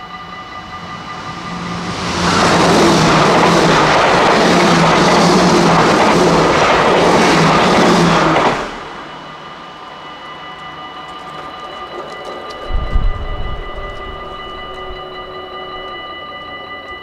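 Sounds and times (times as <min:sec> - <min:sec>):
level crossing warning bells: 0:00.0 - 0:17.0
train passing rumble: 0:00.0 - 0:17.0.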